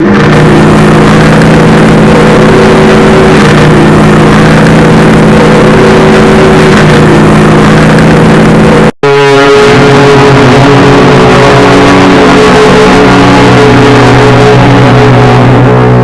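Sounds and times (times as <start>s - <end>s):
ship's horn blast: 0.0s - 16.0s.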